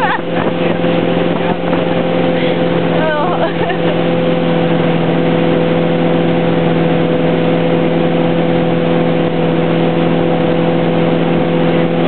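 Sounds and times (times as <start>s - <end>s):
boat engine running: 0.0s - 12.0s
rushing water: 0.0s - 12.0s.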